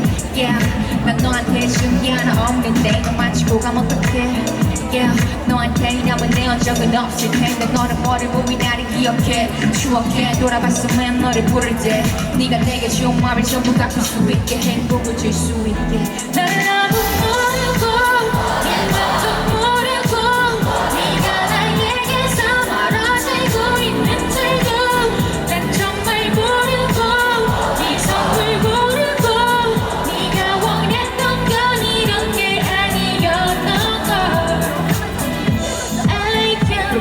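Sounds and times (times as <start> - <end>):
backing track with steady beat: 0.0 - 37.0
person singing: 0.0 - 37.0.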